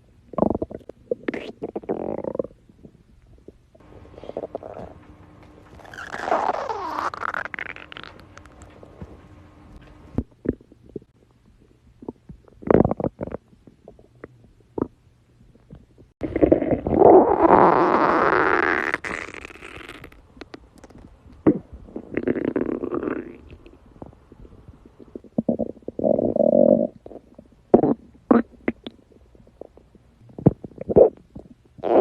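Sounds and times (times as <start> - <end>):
stomach growling: 0.2 - 9.2, 9.8 - 32.0.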